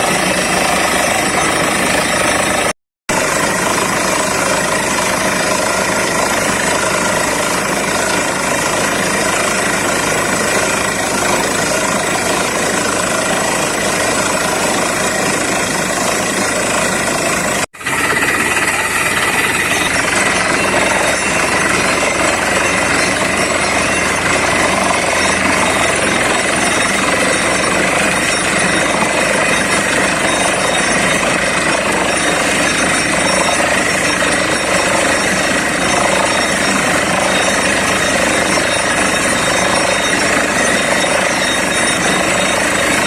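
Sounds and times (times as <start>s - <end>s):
drilling rig running: 0.0s - 43.0s.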